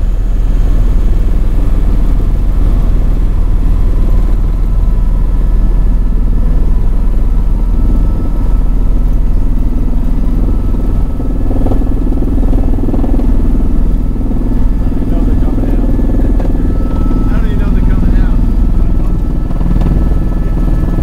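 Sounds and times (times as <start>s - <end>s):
faint whine: 0.0s - 21.0s
helicopter rotor rumble: 0.0s - 21.0s.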